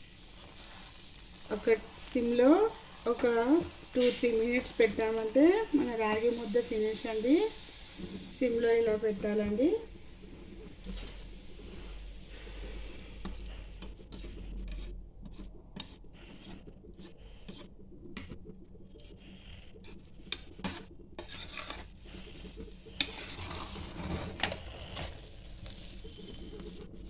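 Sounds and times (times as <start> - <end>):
stirring and mashing thick food: 0.1 - 8.9, 9.8 - 27.0.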